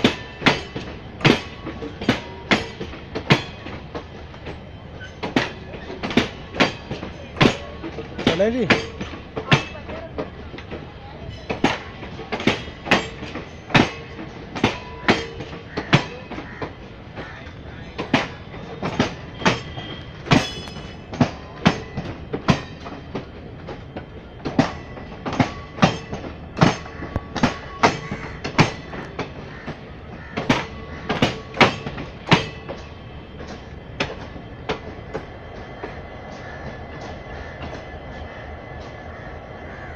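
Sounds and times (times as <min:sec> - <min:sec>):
train rumble: 0:00.0 - 0:39.9
train wheels clacking over joints: 0:00.0 - 0:39.9.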